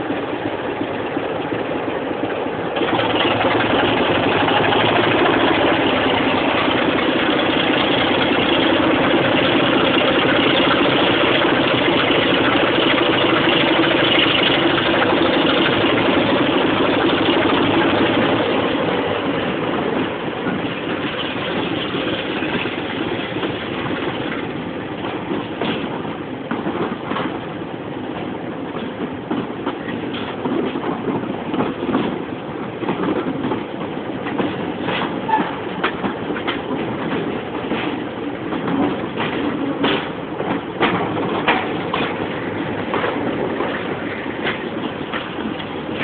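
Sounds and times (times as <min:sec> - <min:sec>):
train running rumble: 0:00.0 - 0:46.0
wheels clicking over rail joints: 0:00.3 - 0:46.0.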